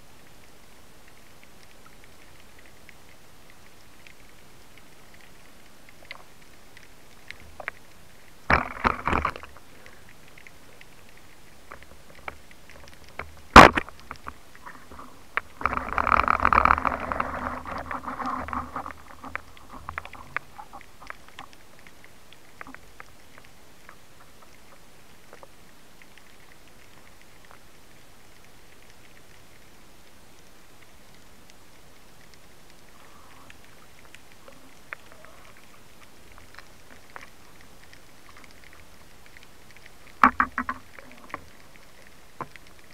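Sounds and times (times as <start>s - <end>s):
cluster of clicks: 0.2s - 42.9s.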